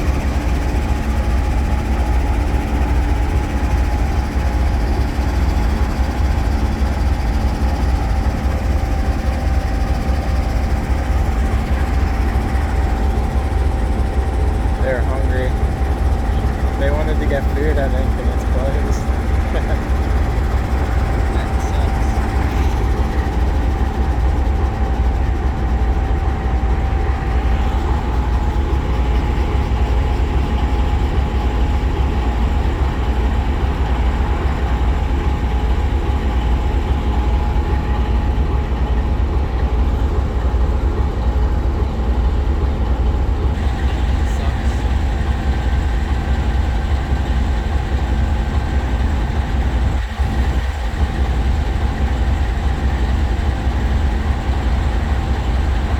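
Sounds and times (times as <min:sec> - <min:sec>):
diesel freight train rumble: 0:00.0 - 0:55.9.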